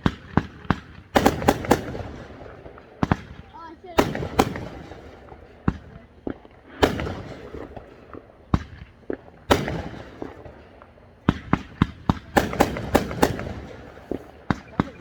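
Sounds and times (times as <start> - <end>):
firework crackling reports: 0.0 - 15.0
small firework cracks: 0.0 - 15.0.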